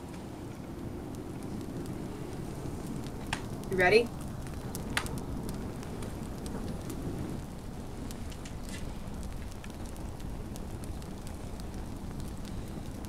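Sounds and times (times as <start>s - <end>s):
low rumble: 0.0s - 13.0s
paper burning crackle: 0.0s - 13.0s.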